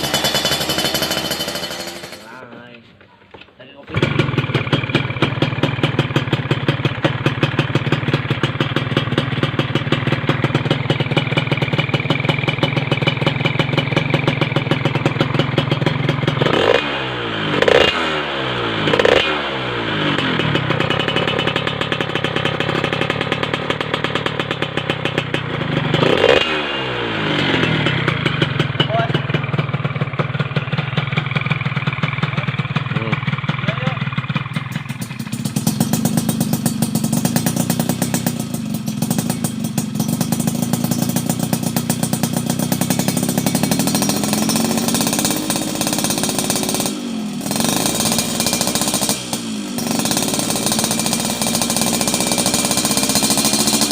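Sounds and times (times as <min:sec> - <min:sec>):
two-stroke engine idling and revving: 0:00.0 - 0:02.8, 0:03.8 - 0:53.9.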